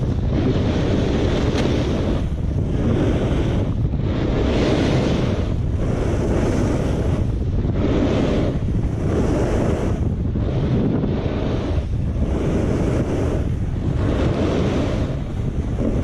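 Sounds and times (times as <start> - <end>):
snowboard carving on snow: 0.0 - 16.0
wind noise on microphone: 0.0 - 16.0.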